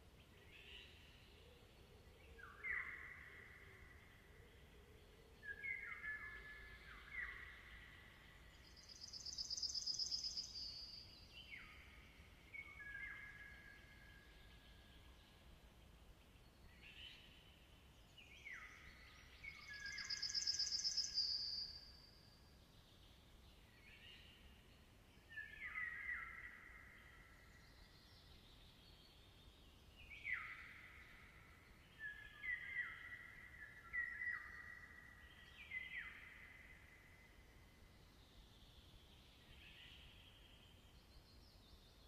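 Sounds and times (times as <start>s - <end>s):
faint background hiss: 0.0s - 42.0s.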